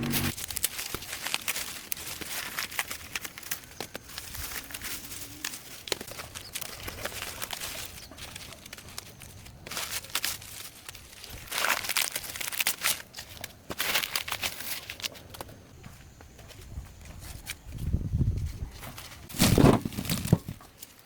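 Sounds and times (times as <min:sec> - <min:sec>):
crinkling and rustling: 0:00.0 - 0:21.0.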